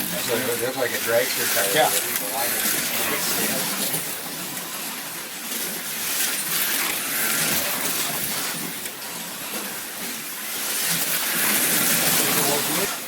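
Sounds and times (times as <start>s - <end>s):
slot cars motors hissing: 0.0s - 13.0s.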